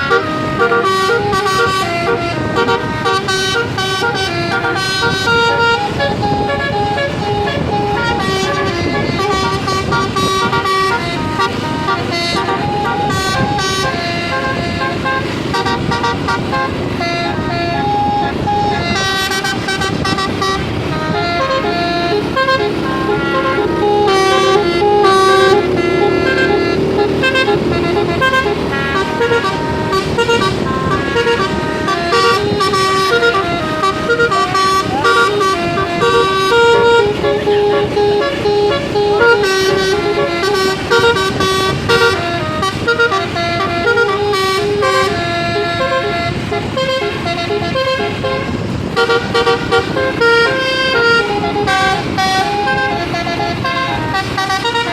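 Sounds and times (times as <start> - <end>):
bus air horn playing a tune: 0.0 - 54.9.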